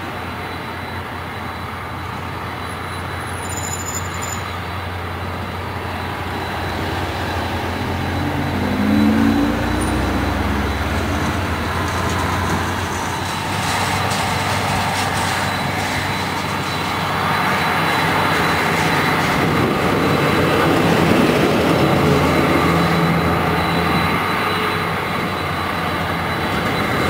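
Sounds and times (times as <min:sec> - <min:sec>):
high engine whine: 0:00.0 - 0:27.0
jet engines roaring: 0:04.4 - 0:27.0.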